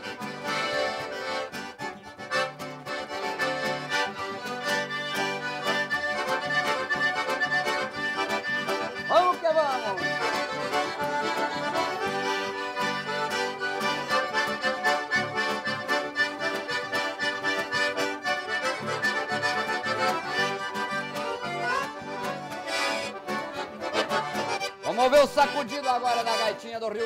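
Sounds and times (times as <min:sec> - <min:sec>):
button accordion: 0:00.0 - 0:27.0
piano accordion: 0:00.0 - 0:27.0
strummed acoustic guitar: 0:00.0 - 0:27.0.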